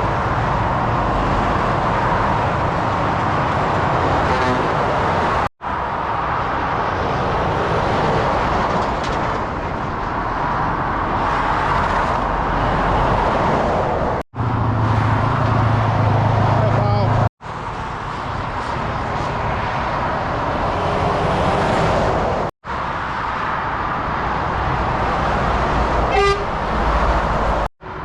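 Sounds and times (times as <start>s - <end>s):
motorway traffic roar: 0.0s - 28.0s.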